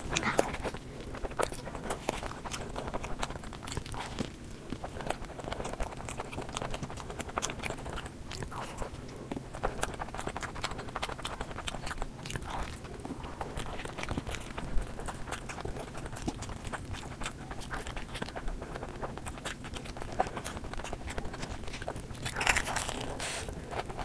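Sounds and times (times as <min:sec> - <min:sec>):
chewing and biting pizza: 0:00.0 - 0:24.0.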